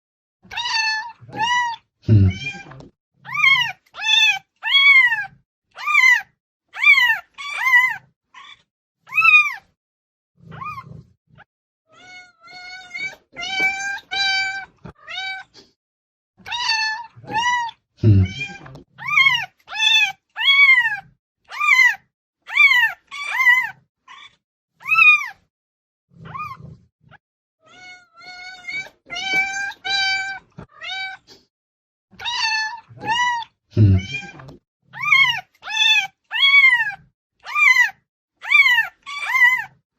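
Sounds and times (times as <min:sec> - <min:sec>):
cat meowing loudly: 0:00.5 - 0:09.6, 0:11.9 - 0:15.5, 0:16.4 - 0:25.4, 0:27.6 - 0:31.3, 0:32.2 - 0:39.7.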